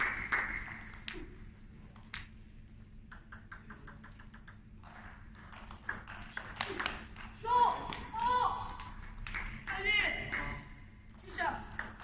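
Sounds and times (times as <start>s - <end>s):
table tennis ball bouncing: 0.0s - 12.0s.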